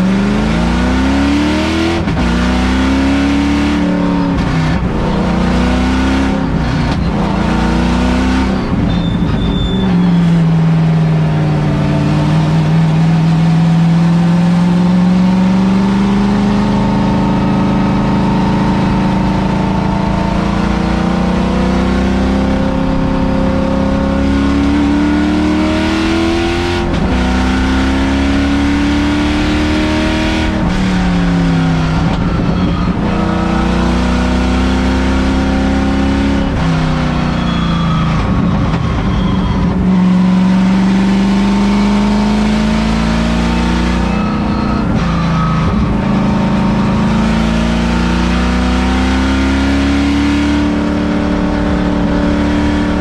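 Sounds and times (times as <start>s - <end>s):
race car engine pulling hard: 0.0s - 53.0s.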